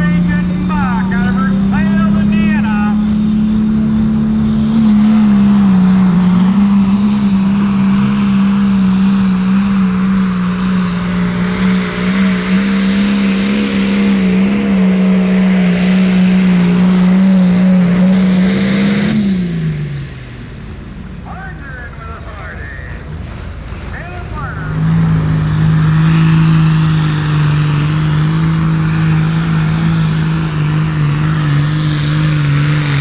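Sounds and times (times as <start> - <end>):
rushing roar: 0.0 - 33.0
tractor diesel engine at full throttle: 0.0 - 33.0.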